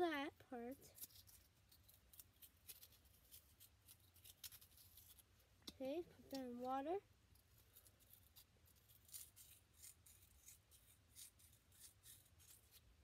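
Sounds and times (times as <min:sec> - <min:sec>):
faint scratching and rubbing: 0:00.1 - 0:13.0.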